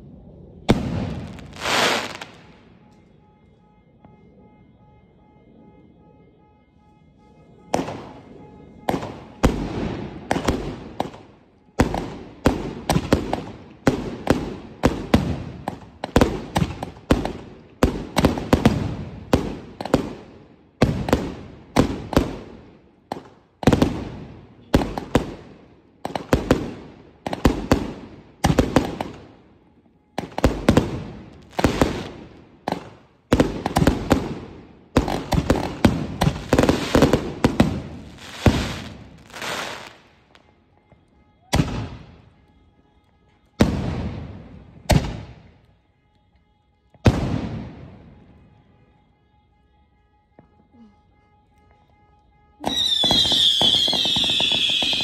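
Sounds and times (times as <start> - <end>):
firework shells banging and crackling: 7.7 - 48.6, 51.5 - 55.0.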